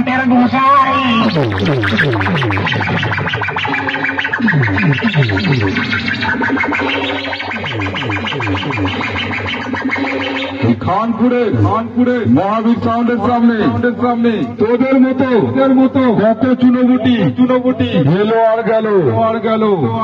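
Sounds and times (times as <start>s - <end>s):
loud electronic dance music: 0.0s - 15.8s, 16.6s - 18.3s.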